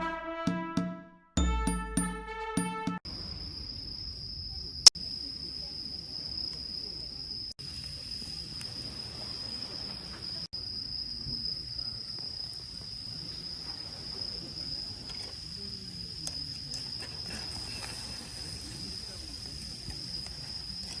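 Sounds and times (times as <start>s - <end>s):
crickets chirping: 3.1s - 21.0s.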